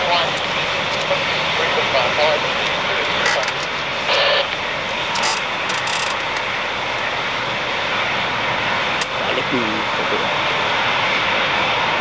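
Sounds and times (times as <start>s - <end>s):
jet engine hiss: 0.0s - 12.0s
jet engines rushing: 0.0s - 12.0s.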